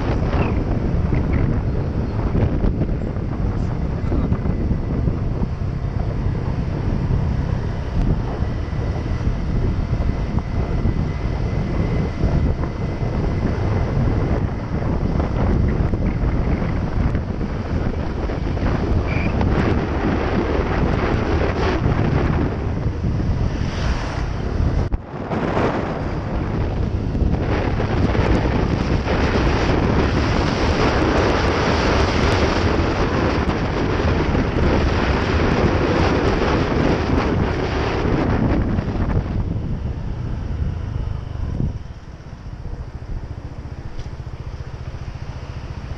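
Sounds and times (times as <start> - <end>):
scooter engine: 0.0 - 23.6, 24.2 - 45.9
road noise: 0.0 - 45.9
wind buffeting microphone: 0.0 - 45.9.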